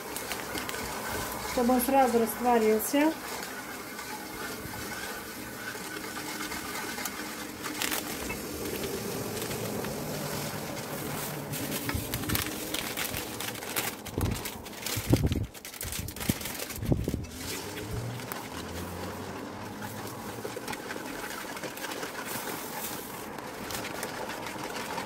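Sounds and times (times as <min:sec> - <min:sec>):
wooden spatula stirring in pot: 0:00.0 - 0:14.9, 0:16.6 - 0:25.0
plastic bag crinkling: 0:00.0 - 0:25.0
sugar pouring into water: 0:00.0 - 0:25.0.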